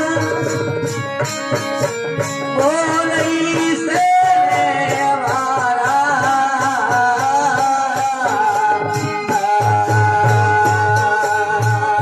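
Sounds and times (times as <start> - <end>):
harmonium melody: 0.0 - 12.0
strummed string instrument: 0.0 - 12.0.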